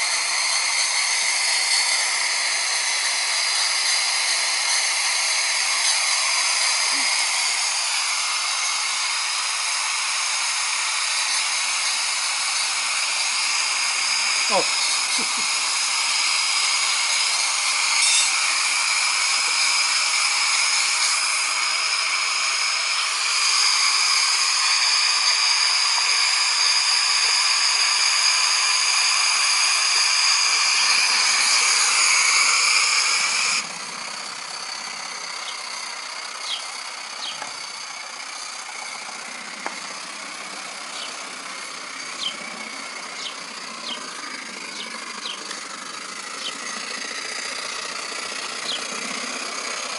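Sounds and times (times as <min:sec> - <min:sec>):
steam hissing: 0:00.0 - 0:10.5, 0:11.4 - 0:45.0
model locomotive running: 0:00.0 - 0:49.9.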